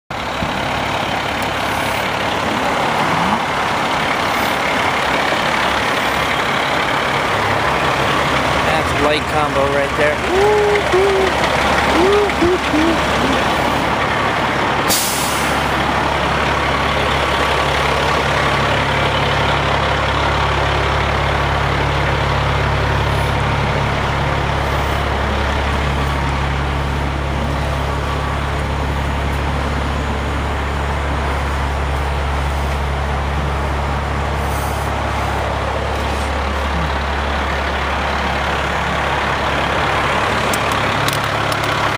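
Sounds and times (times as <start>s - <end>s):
truck engine idling: 0.1s - 41.9s.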